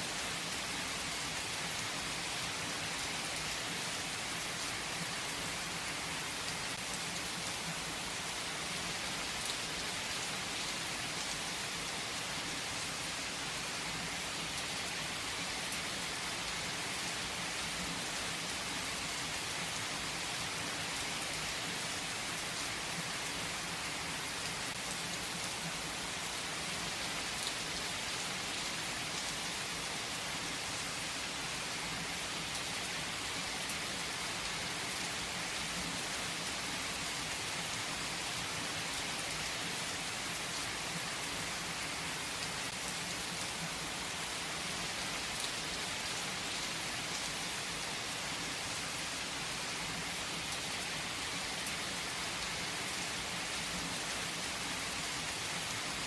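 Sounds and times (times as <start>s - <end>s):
heavy rain on leaves: 0.0s - 56.0s.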